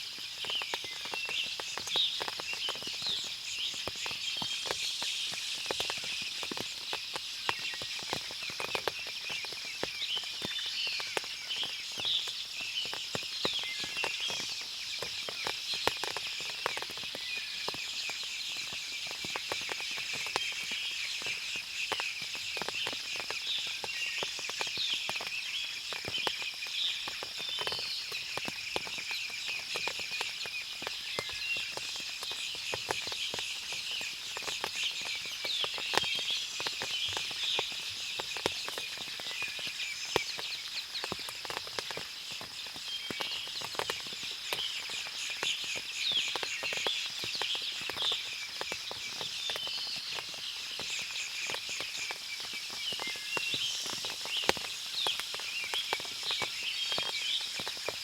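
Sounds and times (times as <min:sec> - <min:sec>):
small ticks: 0:00.1 - 0:58.0.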